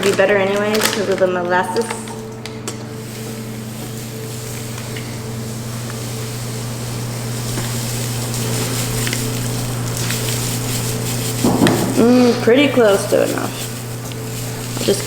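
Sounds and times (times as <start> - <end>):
appliance motor humming: 0.0 - 15.0.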